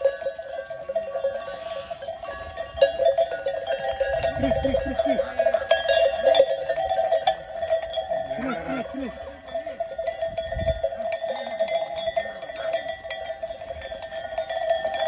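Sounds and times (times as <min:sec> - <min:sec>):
sheep bells clanking: 0:00.0 - 0:15.0.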